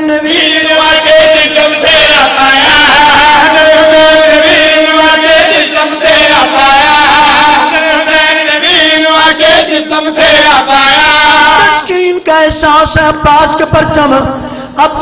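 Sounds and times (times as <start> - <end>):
men chanting in unison: 0.0 - 12.6.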